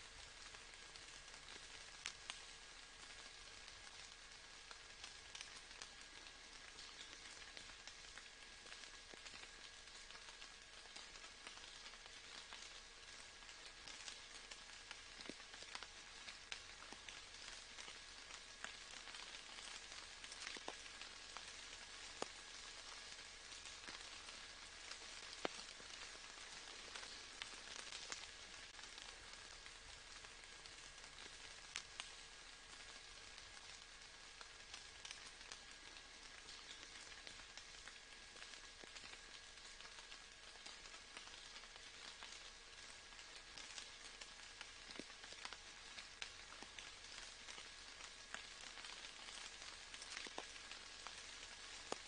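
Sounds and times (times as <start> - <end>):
raindrops ticking: 0.0 - 52.0
steady rain hiss: 0.0 - 52.0.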